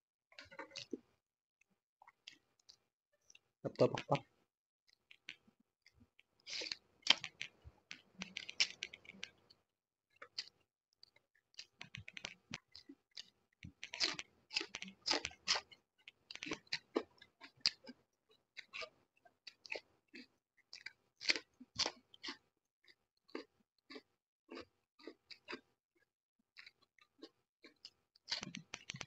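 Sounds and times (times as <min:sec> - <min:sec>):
person chewing food: 0:00.4 - 0:01.1, 0:02.0 - 0:04.2, 0:04.9 - 0:25.7, 0:26.6 - 0:29.0.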